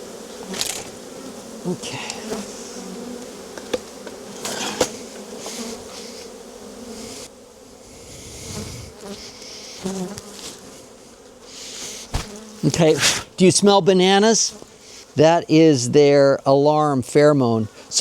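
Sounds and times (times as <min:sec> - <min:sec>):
bees buzzing: 0:00.0 - 0:16.1.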